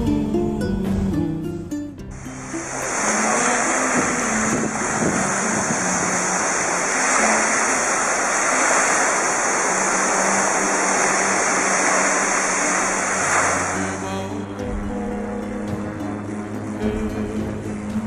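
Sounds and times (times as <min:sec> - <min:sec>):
floatplane engines roaring: 0:02.1 - 0:18.0.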